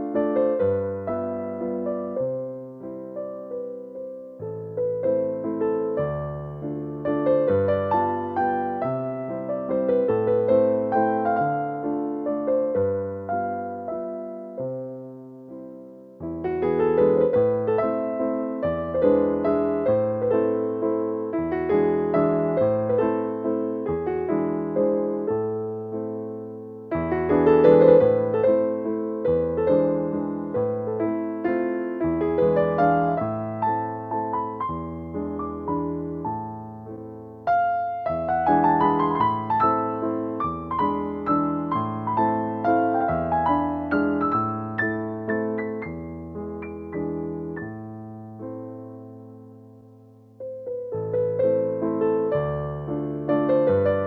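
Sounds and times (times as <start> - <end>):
gentle piano piece: 0.0 - 54.0.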